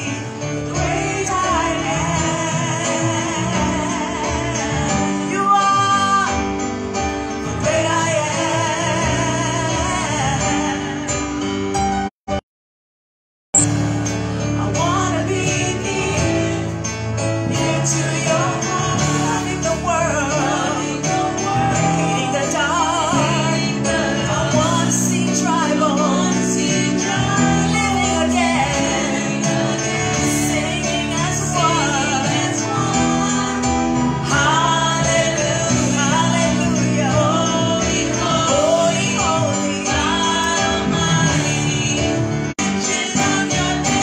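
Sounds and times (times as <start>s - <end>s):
people singing gospel song: 0.0s - 11.2s, 14.6s - 44.0s.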